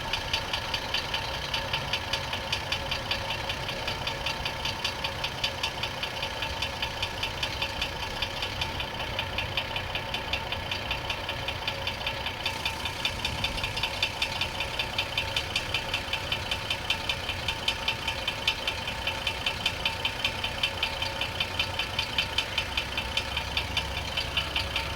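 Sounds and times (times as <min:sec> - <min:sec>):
car engine idling: 0:00.0 - 0:24.9
fast even engine knock: 0:00.0 - 0:24.9.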